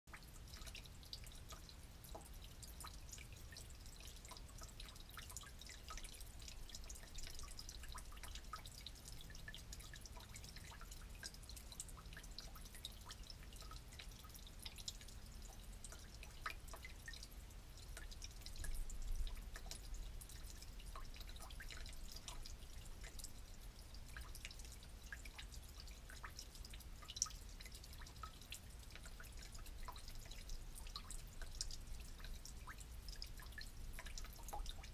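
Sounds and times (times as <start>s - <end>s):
gasoline dripping into pan: 0.1s - 34.9s.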